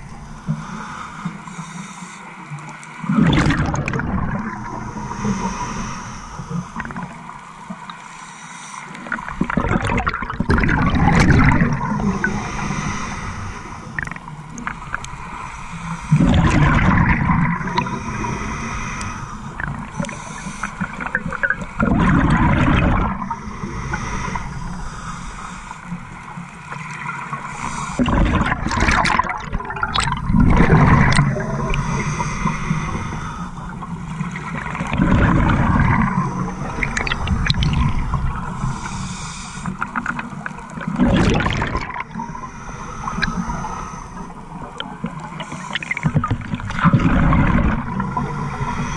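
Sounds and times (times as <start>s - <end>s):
underwater gurgling: 0.0s - 48.9s
scuba regulator bubbles rushing: 3.1s - 5.8s, 9.0s - 24.5s, 26.7s - 48.9s.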